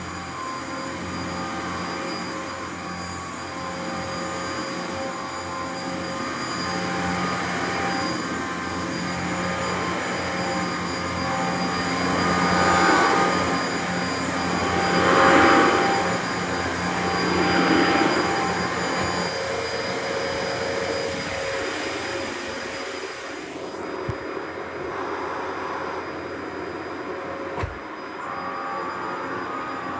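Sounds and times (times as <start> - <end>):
upright vacuum cleaner running: 0.0 - 29.9.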